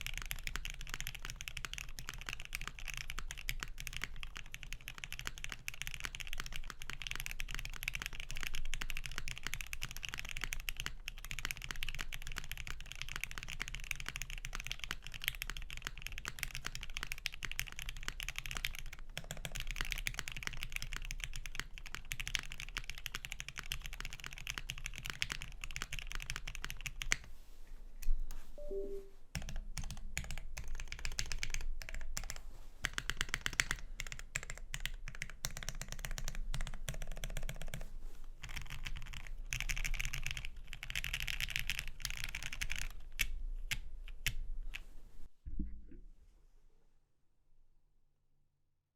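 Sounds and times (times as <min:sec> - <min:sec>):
fast mechanical keyboard typing: 0:00.0 - 0:27.2, 0:29.4 - 0:37.8, 0:38.4 - 0:43.4.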